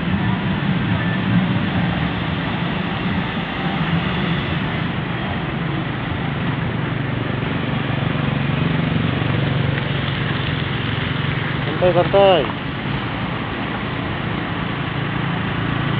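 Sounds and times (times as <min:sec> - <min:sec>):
vehicle engines humming: 0:00.0 - 0:15.9.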